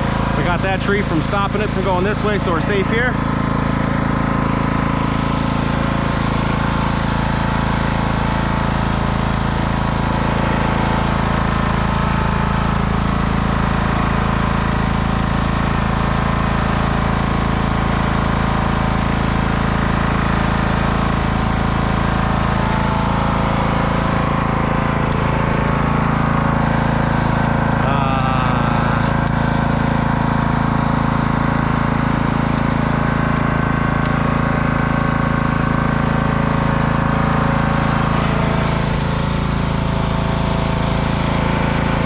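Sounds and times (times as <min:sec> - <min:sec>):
lawnmower engine running: 0:00.0 - 0:42.0.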